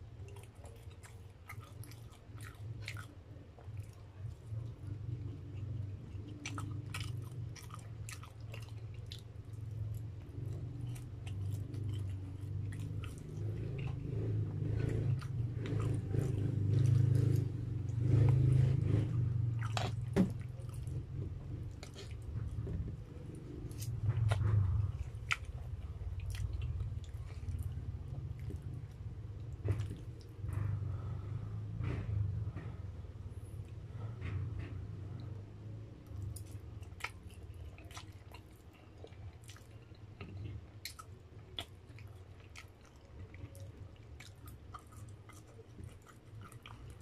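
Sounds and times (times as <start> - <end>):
close chewing and biting: 0.0 - 47.0.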